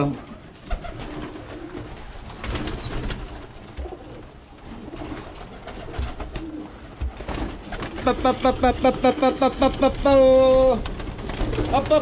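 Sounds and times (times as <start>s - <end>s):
pigeons cooing: 0.0s - 12.0s
pigeon wing flaps: 0.6s - 12.0s.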